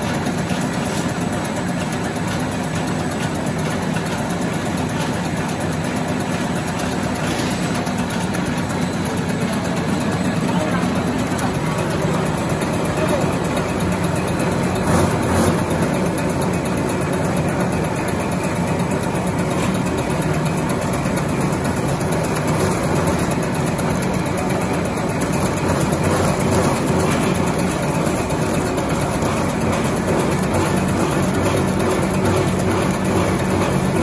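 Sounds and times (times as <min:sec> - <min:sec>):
food machinery running: 0:00.0 - 0:34.0.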